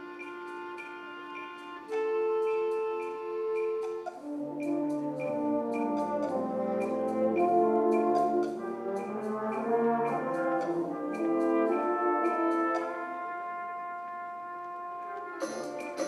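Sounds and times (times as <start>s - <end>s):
light percussion strokes: 0.0s - 13.8s, 15.2s - 16.0s
wind ensemble playing chords: 0.0s - 16.0s.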